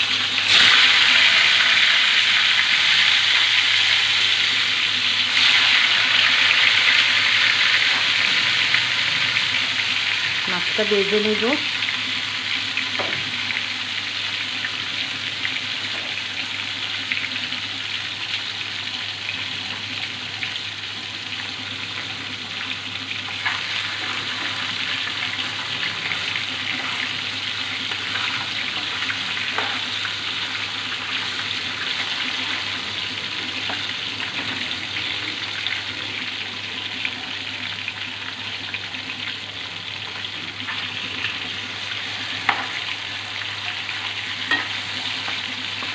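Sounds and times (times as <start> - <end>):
fish frying in hot oil: 0.0 - 45.9.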